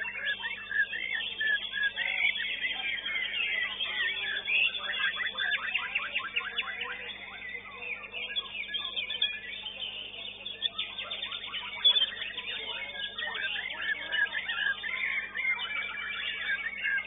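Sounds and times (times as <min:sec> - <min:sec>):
faint steady hum: 0:00.0 - 0:17.0
songbirds singing: 0:00.0 - 0:17.0.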